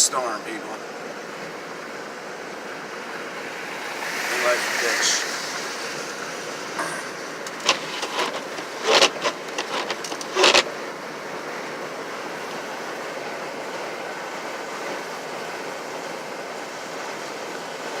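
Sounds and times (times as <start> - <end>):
road noise inside car: 0.0 - 18.0.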